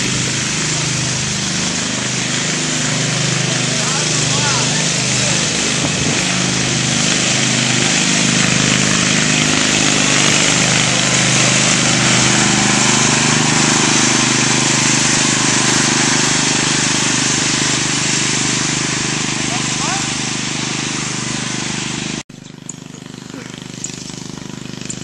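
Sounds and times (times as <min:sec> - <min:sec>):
lawn mower engine droning: 0:00.0 - 0:25.0.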